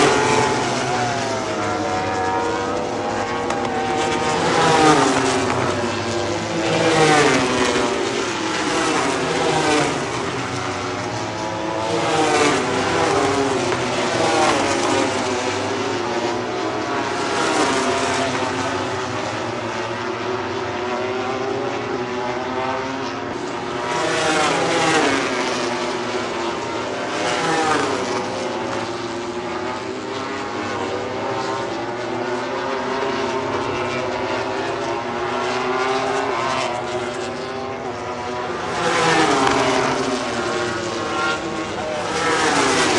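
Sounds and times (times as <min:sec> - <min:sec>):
racing motorcycles passing at speed: 0:00.0 - 0:42.9.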